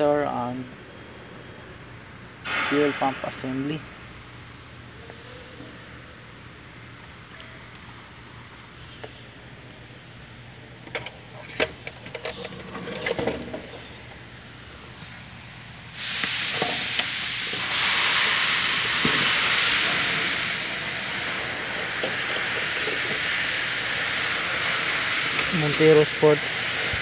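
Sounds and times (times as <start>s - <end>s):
loud steady hiss: 0.0s - 12.2s, 13.2s - 27.0s.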